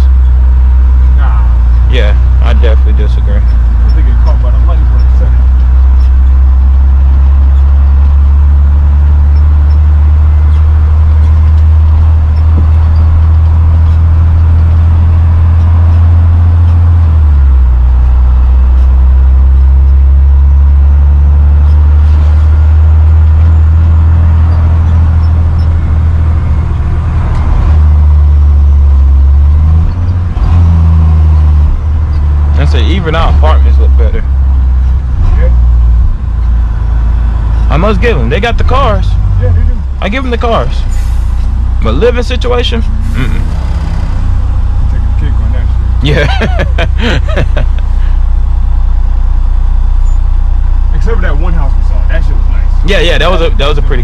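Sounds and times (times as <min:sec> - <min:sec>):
truck engine and road drone: 0:00.0 - 0:54.0.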